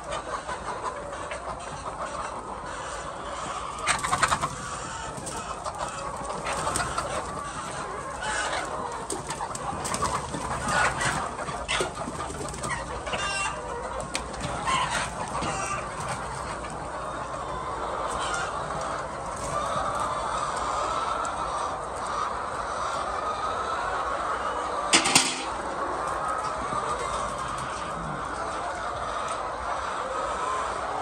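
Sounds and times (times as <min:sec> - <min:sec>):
hens clucking: 0:00.0 - 0:31.0
loud flurry of hens: 0:00.0 - 0:31.0.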